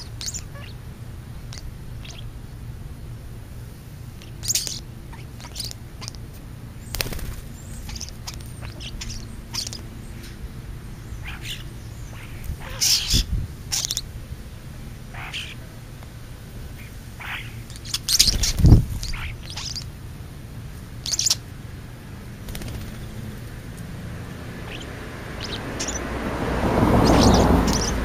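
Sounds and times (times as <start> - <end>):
birds chirping and calling: 0.0 - 2.7, 4.0 - 28.0.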